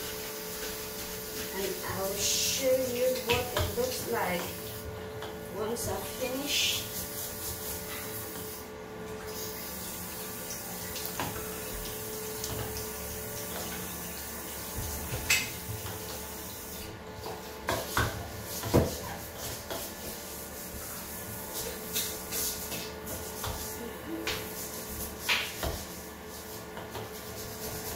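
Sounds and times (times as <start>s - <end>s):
tap water running: 0.0s - 27.9s.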